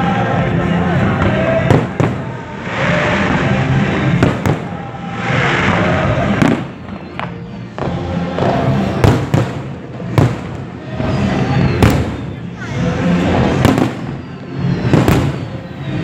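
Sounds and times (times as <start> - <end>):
music: 0.0 - 16.0
fireworks bangs: 0.5 - 16.0
fireworks rushing hiss: 1.2 - 16.0.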